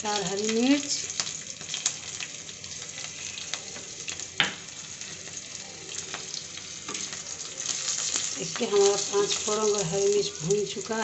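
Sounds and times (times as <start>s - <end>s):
chillies frying in hot oil: 0.0s - 11.0s.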